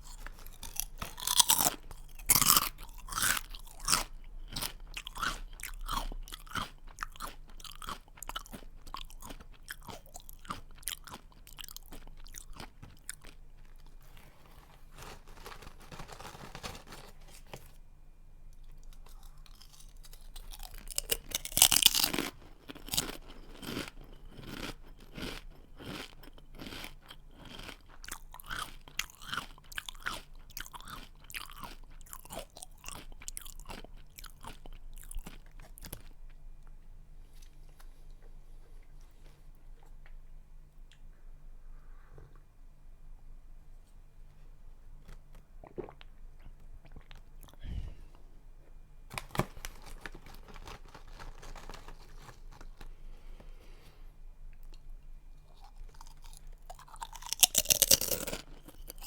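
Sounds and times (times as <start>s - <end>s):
chewing crunchy snack: 0.0s - 17.7s, 18.5s - 40.2s, 45.0s - 48.1s, 49.1s - 53.9s, 54.5s - 59.0s.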